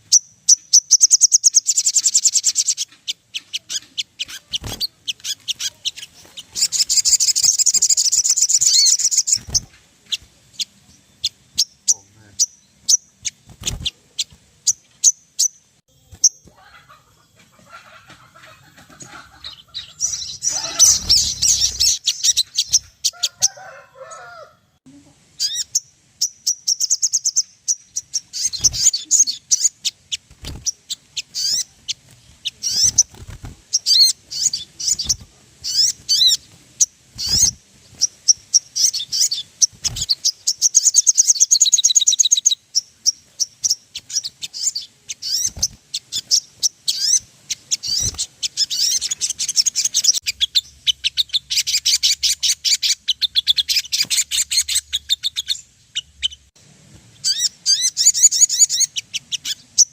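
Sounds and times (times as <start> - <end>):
birds chirping and trilling: 0.0 - 24.6, 25.2 - 59.9.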